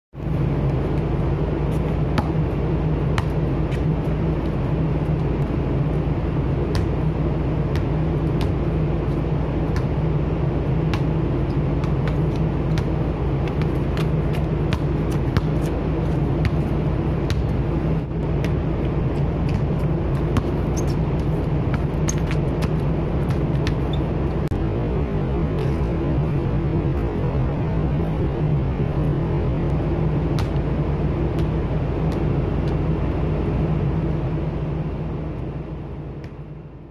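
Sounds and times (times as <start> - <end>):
ship engine droning: 0.2 - 36.8.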